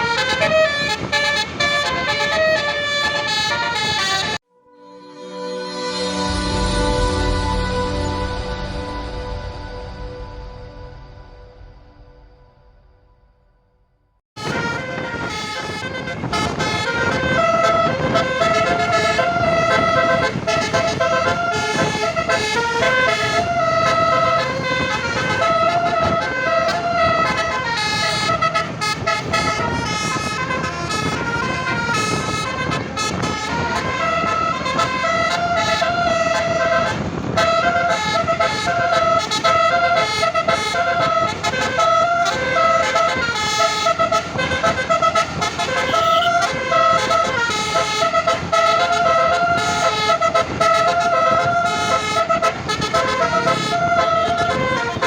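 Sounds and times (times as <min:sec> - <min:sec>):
bus air horn playing a tune: 0:00.0 - 0:12.3, 0:14.4 - 0:55.0.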